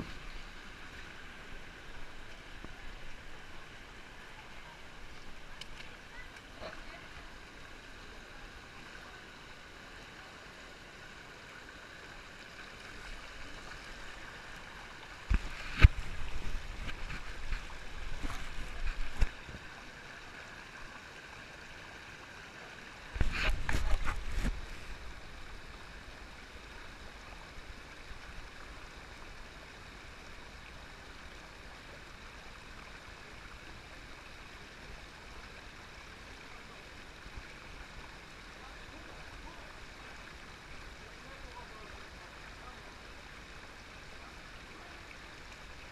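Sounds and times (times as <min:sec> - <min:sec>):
water flowing over rocks: 0:00.0 - 0:45.9.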